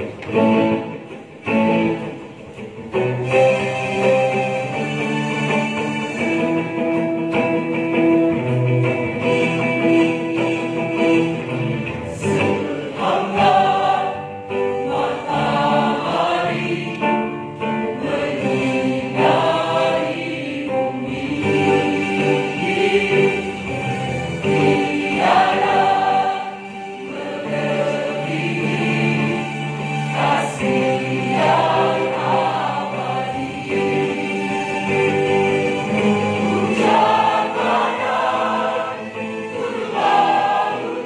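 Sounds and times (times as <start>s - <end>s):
mixed choir singing a praise song: 0.0s - 2.2s, 3.0s - 41.0s.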